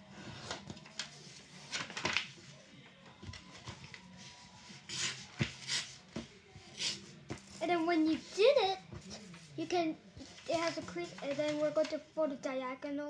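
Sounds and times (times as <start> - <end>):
paper rustling: 0.2 - 9.6, 10.2 - 12.0.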